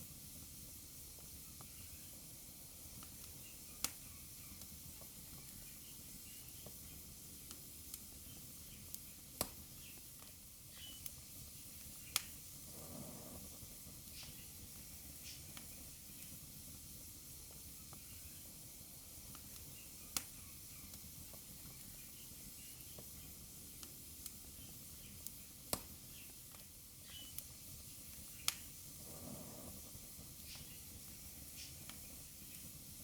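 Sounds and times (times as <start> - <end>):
fire crackling pops: 0.0 - 33.0
fire hissing: 0.0 - 33.0.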